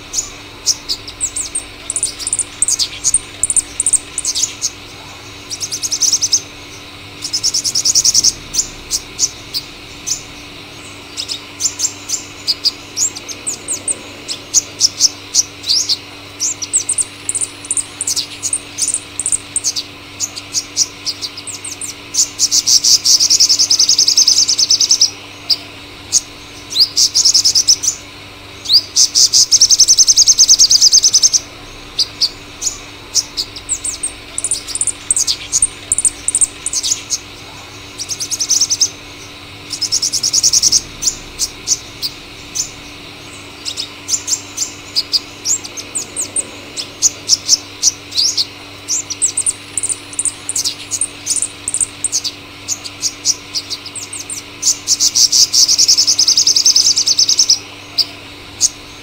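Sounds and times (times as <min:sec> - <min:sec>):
bird singing with buzzy trills: 0:00.0 - 0:59.0.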